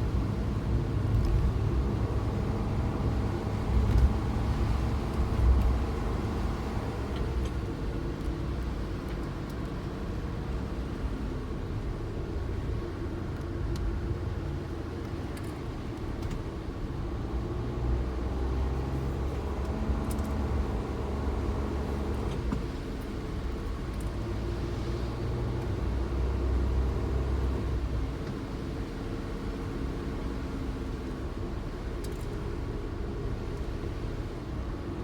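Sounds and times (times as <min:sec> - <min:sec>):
engine and road rumble in car: 0:00.0 - 0:35.0.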